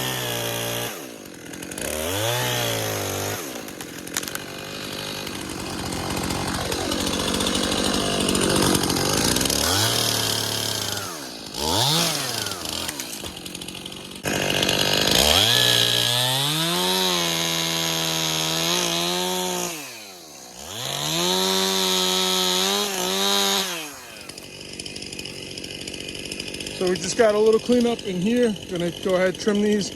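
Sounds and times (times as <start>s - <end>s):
chainsaw cutting branch: 0.0s - 29.9s.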